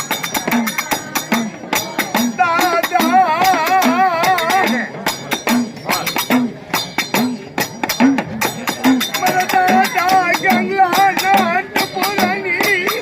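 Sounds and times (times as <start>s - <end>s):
low bumping beat: 0.0s - 13.0s
rattling and jingling percussion: 0.0s - 13.0s.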